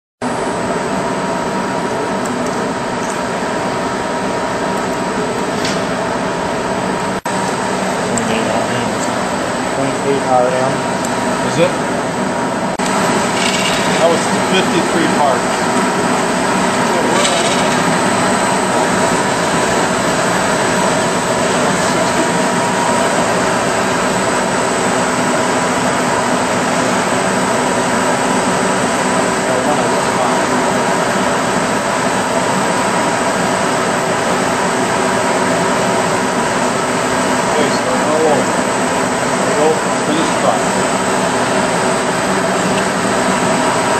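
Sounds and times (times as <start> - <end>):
machine shop machinery hum: 0.2 - 43.9.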